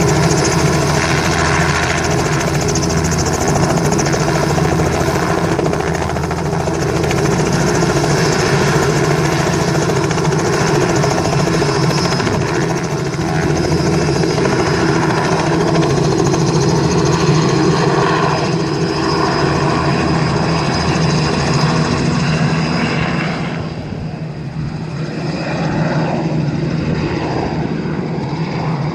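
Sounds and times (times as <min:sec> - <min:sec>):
helicopter rotor and engine drone: 0:00.0 - 0:28.9.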